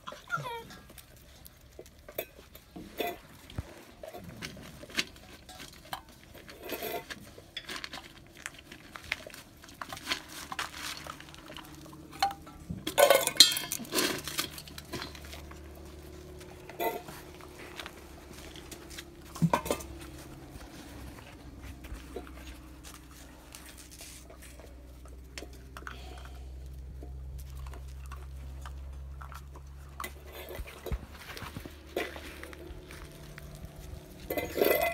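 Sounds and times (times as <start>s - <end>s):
metal bowls clattering on concrete: 0.0s - 34.9s.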